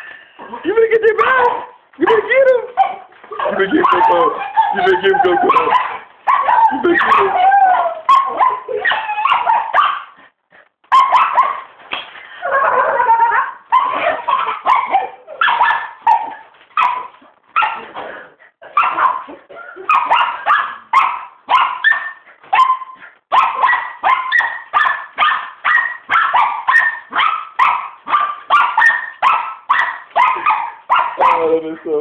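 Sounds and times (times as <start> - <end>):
dog barking: 1.2 - 10.2, 10.9 - 11.7, 13.7 - 17.9, 18.7 - 31.6.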